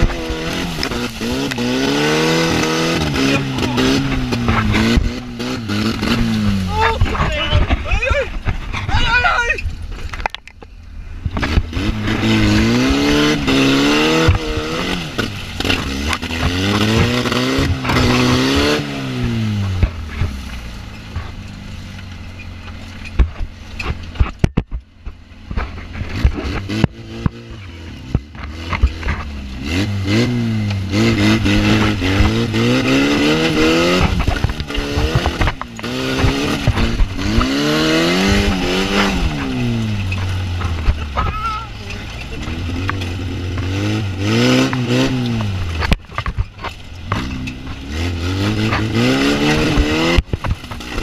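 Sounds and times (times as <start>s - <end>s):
buggy engine revving: 0.0s - 51.0s.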